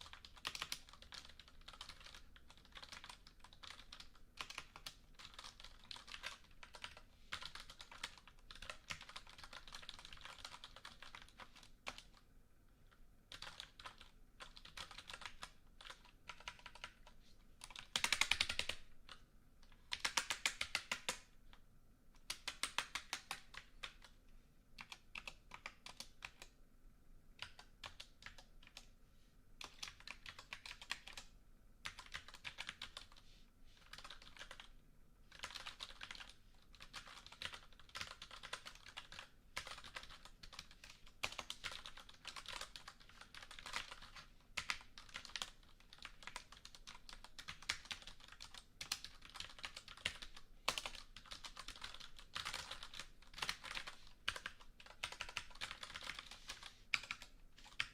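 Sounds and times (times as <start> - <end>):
computer keyboard typing: 0.0 - 12.2, 13.3 - 19.2, 19.8 - 21.3, 22.2 - 24.2, 24.8 - 26.6, 27.4 - 28.9, 29.6 - 33.2, 33.8 - 34.7, 35.3 - 57.9.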